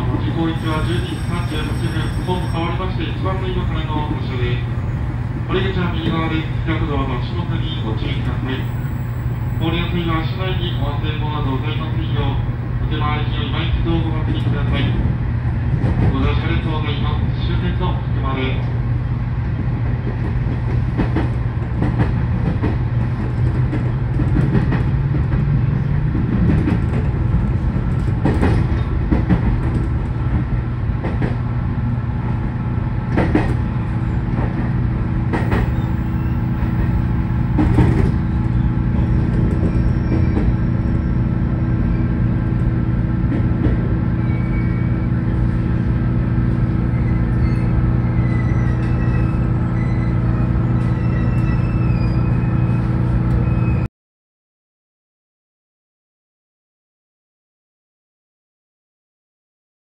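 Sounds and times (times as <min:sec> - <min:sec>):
electric train hum: 0:00.0 - 0:53.8.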